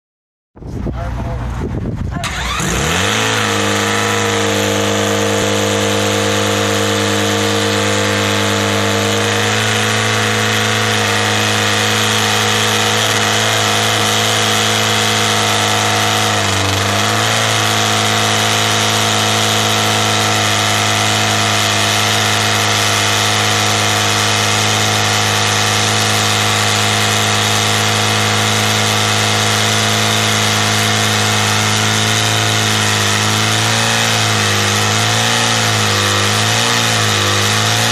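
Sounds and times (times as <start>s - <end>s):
motorcycle engine idling loudly: 1.0s - 37.9s.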